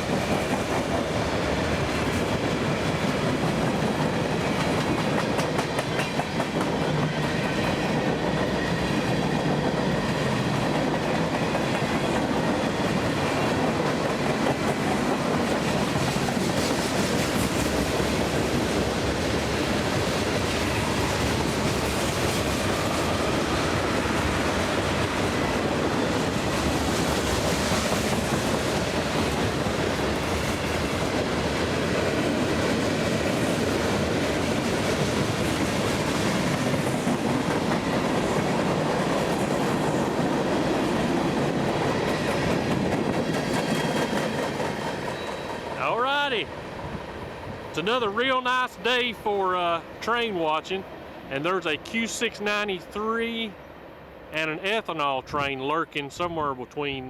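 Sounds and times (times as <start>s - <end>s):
freight train cars rolling past: 0.0s - 56.8s.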